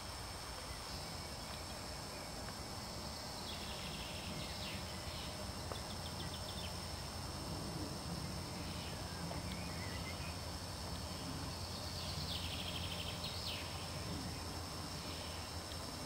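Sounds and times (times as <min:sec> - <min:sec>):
small birds singing: 0:00.0 - 0:07.3, 0:08.0 - 0:16.0.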